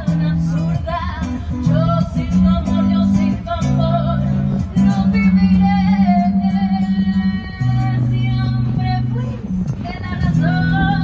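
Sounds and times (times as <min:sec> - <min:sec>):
guitar: 0:00.0 - 0:11.0
held bass notes: 0:00.0 - 0:11.0.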